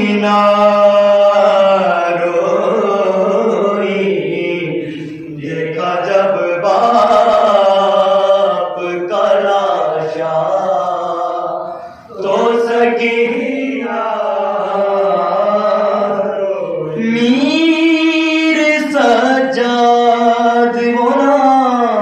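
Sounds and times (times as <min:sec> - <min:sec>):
group of men singing: 0:00.0 - 0:22.0
man chanting into a microphone: 0:00.0 - 0:22.0.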